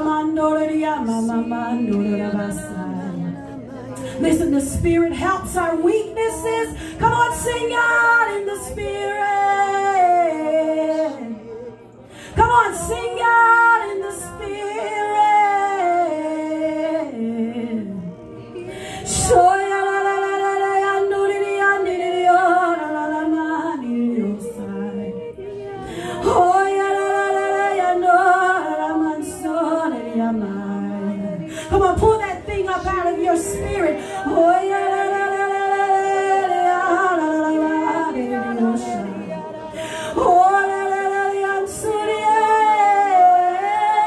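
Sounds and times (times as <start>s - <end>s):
woman singing: 0.0s - 44.0s.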